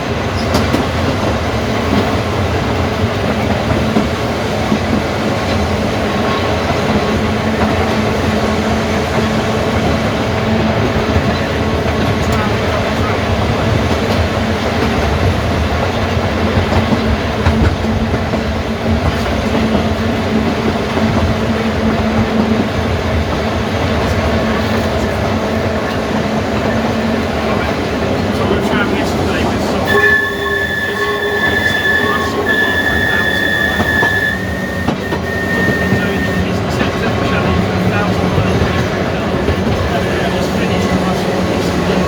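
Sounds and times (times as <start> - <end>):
electric tram rumbling with hum: 0.0 - 42.0.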